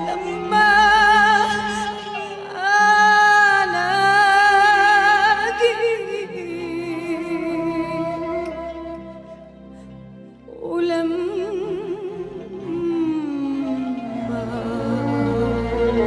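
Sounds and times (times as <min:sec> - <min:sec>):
woman singing devotional song: 0:00.0 - 0:09.2, 0:10.5 - 0:16.0.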